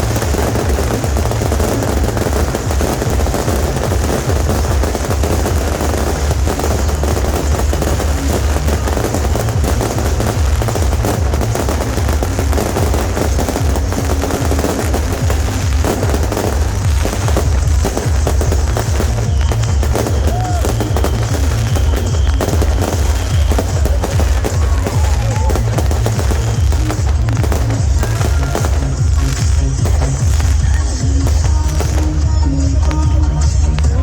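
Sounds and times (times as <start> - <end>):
fireworks crackling: 0.0 - 34.0
music: 0.0 - 34.0.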